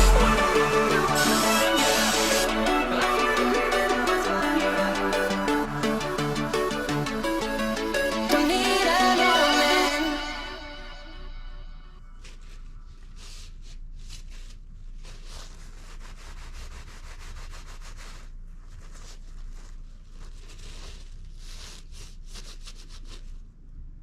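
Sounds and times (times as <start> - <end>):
hand rubbing and scraping strokes: 0.0 - 10.4, 12.2 - 23.6.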